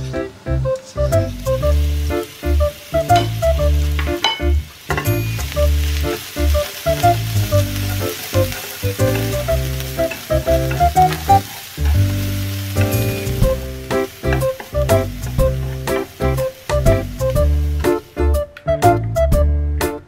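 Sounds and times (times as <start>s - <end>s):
carrots sizzling in oil: 0.0s - 18.5s
background music: 0.0s - 20.0s.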